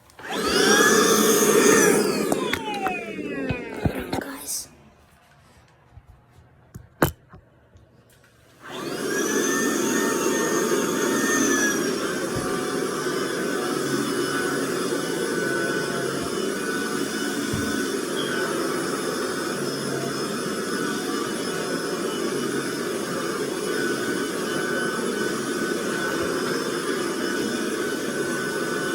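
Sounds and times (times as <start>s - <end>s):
vacuum cleaner motor whining: 0.0s - 4.9s, 8.5s - 28.9s.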